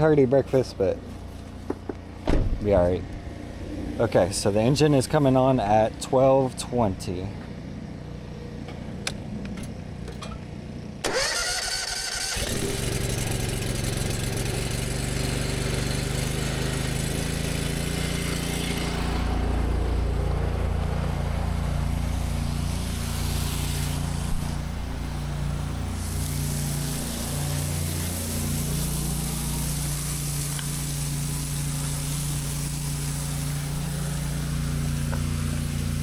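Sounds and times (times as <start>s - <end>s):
pressure washer engine running: 0.0s - 36.0s.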